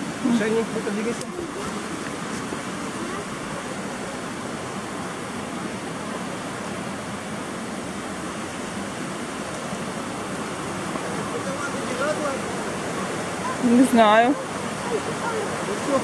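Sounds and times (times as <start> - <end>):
waterfalls and rapids roaring: 0.0 - 16.0.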